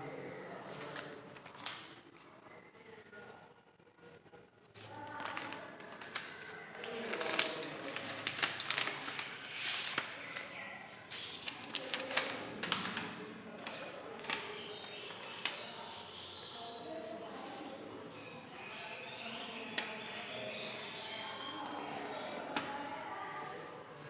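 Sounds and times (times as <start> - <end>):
indistinct background voices: 0.0 - 24.0.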